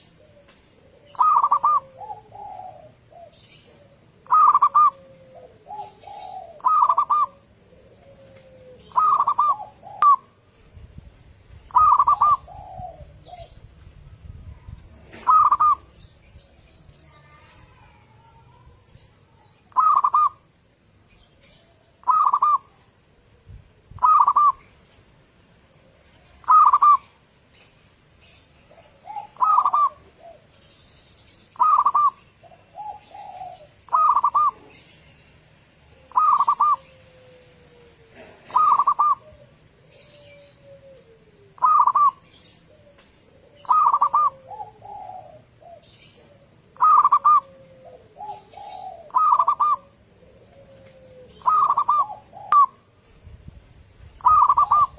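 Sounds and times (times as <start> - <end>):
doves cooing: 0.0 - 54.9
small birds chirping: 0.0 - 54.9.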